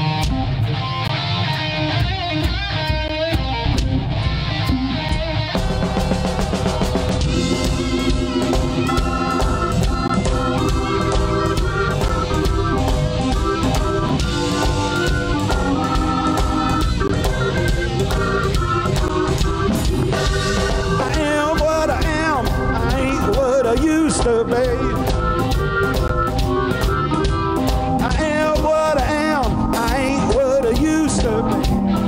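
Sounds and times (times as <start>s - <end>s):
electric bass: 0.0s - 32.0s
electric guitar: 0.0s - 32.0s
drum kit steady beat: 1.4s - 32.0s.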